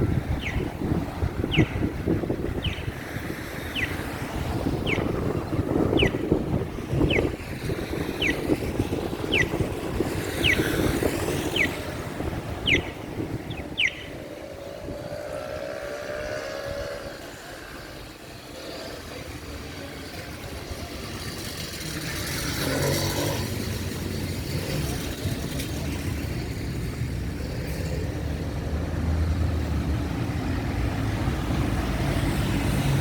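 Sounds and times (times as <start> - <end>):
city street traffic: 0.0 - 33.0
vehicle passing: 0.0 - 33.0.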